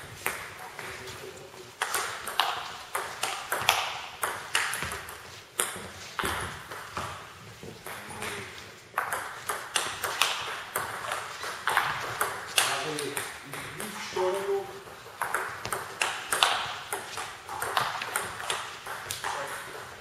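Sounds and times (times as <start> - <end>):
table tennis ball knocking: 1.8 - 8.4, 9.0 - 20.0.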